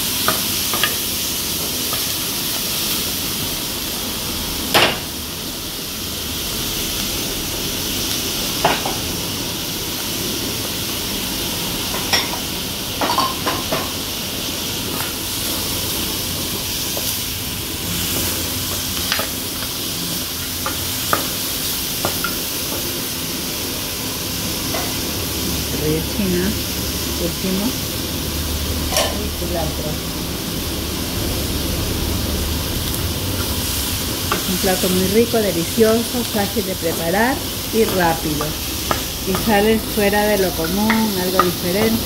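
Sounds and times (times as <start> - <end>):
food sizzling in a frying pan: 0.0 - 42.0.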